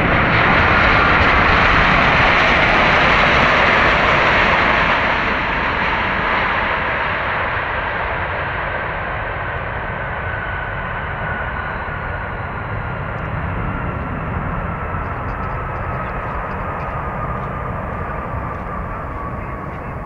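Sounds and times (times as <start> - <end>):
jet engines whining and rushing: 0.0 - 20.0.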